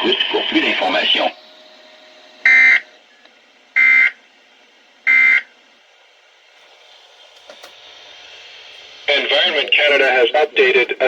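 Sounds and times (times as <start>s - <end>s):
faint radio hiss: 0.0s - 5.0s, 5.6s - 11.0s.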